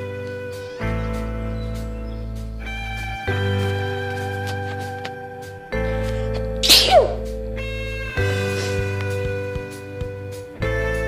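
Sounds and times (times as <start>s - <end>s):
music with held chords and bass: 0.0s - 11.0s.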